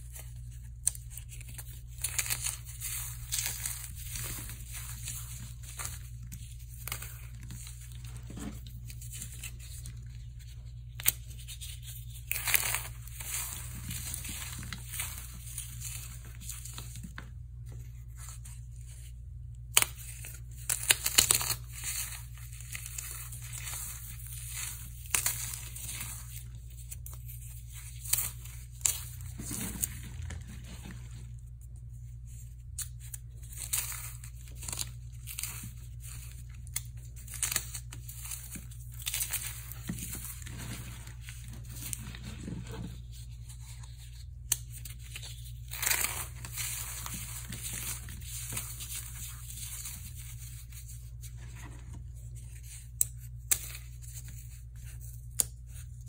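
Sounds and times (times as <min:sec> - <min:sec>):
hands crushing dry foam: 0:00.1 - 0:18.5, 0:19.6 - 0:31.6, 0:32.6 - 0:42.8, 0:44.3 - 0:50.8.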